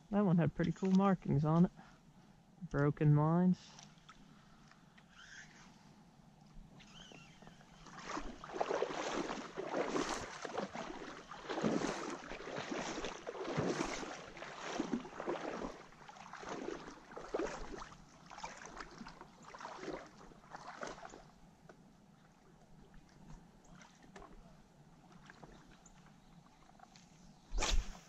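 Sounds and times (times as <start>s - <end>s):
water sloshing and splashing: 0.2s - 1.8s, 3.7s - 5.7s, 6.5s - 21.4s, 22.2s - 28.0s.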